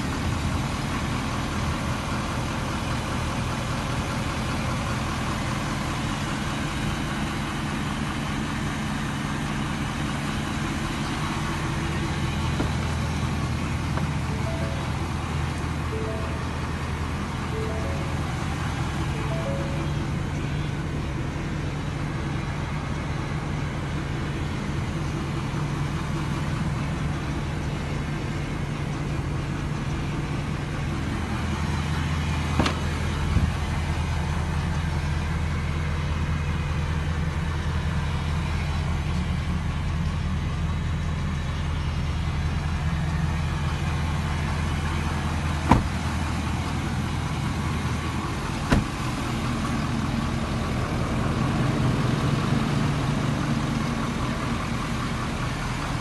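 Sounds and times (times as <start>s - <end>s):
pickup engine idling: 0.0s - 56.0s.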